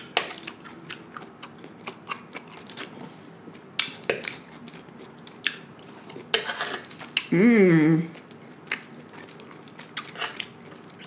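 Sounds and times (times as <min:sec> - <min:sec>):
chewing and biting food: 0:00.1 - 0:07.3, 0:08.2 - 0:11.0.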